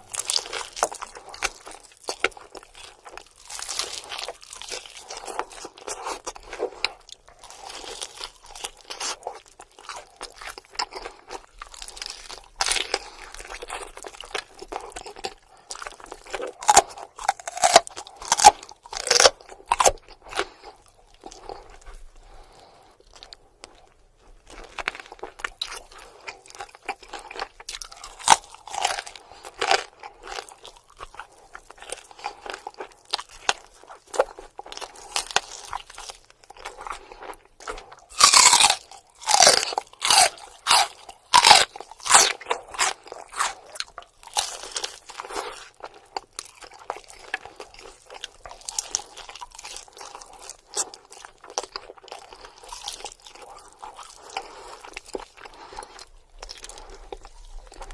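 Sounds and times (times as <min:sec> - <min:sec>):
chewing close to microphone: 0:00.0 - 0:57.9.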